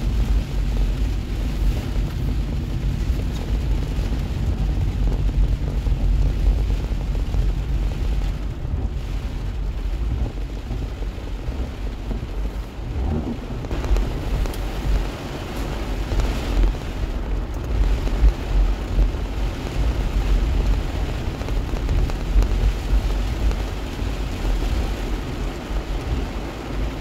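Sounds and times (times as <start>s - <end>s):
deep steady rumble: 0.0s - 27.0s
heavy rain on car roof: 0.0s - 27.0s.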